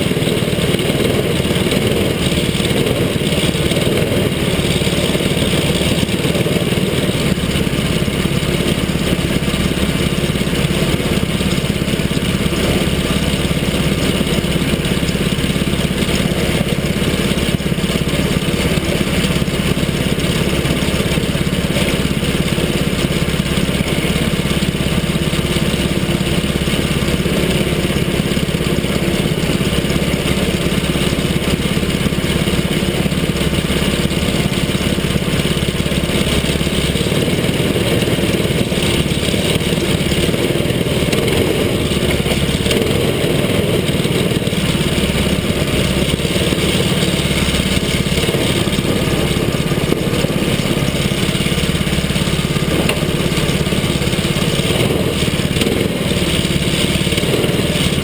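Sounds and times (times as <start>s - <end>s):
kart engine running: 0.0s - 58.0s.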